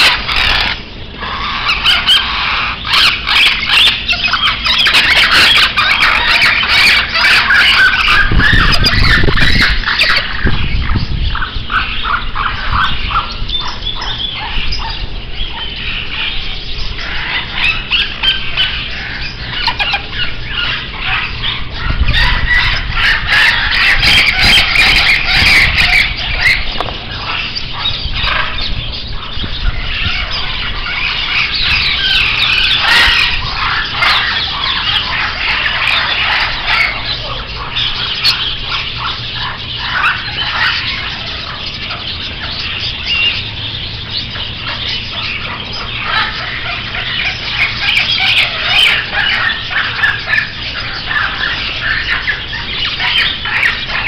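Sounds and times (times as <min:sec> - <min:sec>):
caged birds chirping and squawking: 0:00.0 - 0:54.0.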